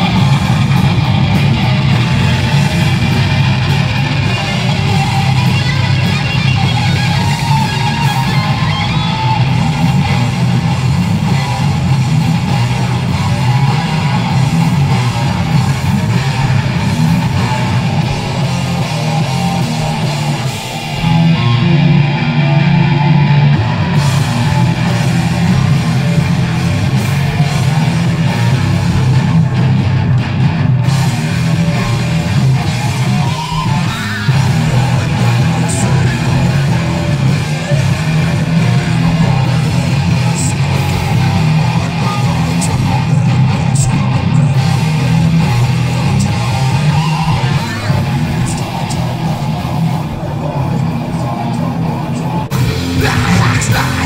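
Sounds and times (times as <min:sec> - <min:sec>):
heavy metal band playing: 0:00.0 - 0:54.0.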